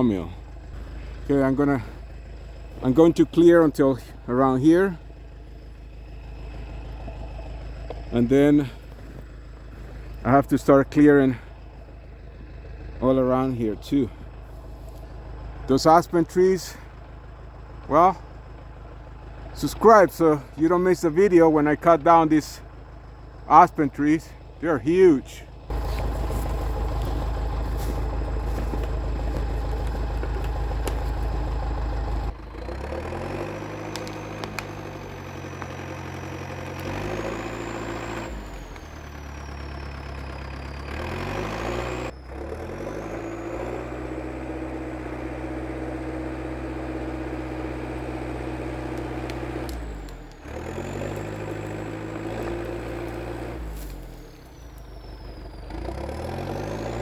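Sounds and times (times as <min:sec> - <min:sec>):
bulldozer diesel engine running: 0:00.0 - 0:57.0
high engine whine: 0:00.0 - 0:57.0.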